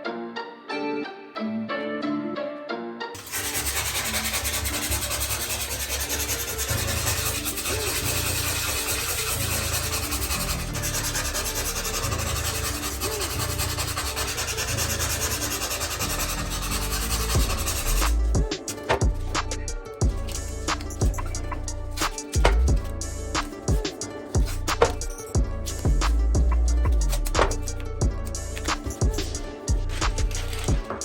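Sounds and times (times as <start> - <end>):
music: 0.0 - 31.0
sandpaper scratching bathtub: 3.2 - 31.0.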